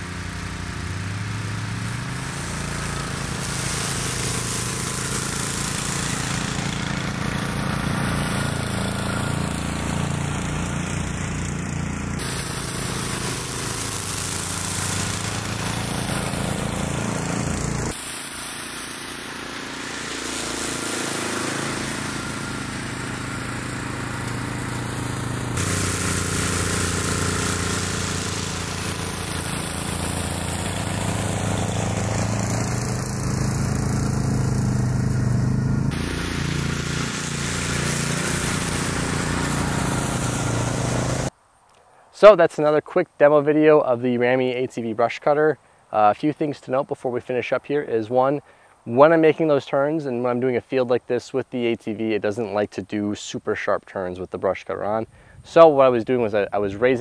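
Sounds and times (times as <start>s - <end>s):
engines mowing tall grass: 0.0s - 41.4s, 42.6s - 57.0s.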